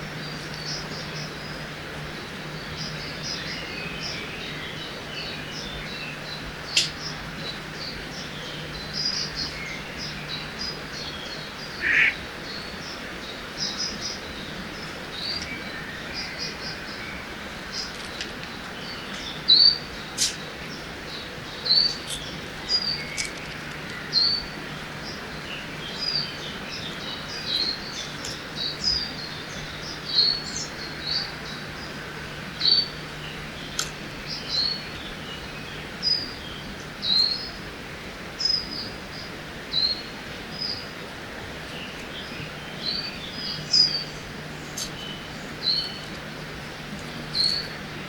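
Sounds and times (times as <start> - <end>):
small birds chirping: 0.0 - 37.6, 38.3 - 48.0.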